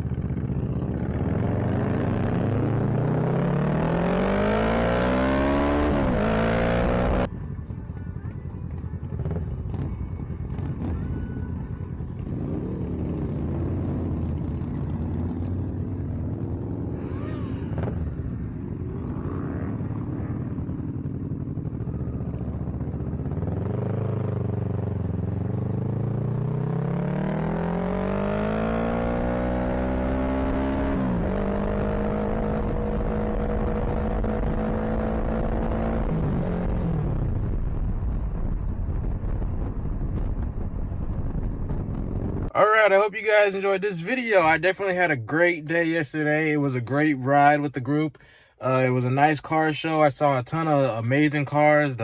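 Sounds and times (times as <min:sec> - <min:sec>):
motorcycle engine accelerating: 0:00.0 - 0:43.4.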